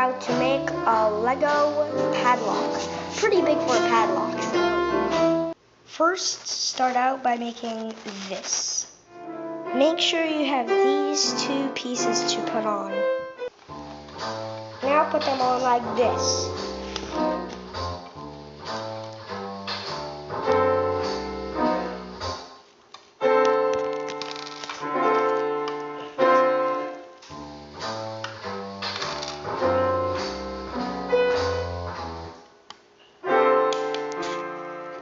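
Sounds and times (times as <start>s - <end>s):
piano music: 0.0s - 5.6s, 9.1s - 22.4s, 23.2s - 32.3s, 33.2s - 35.0s.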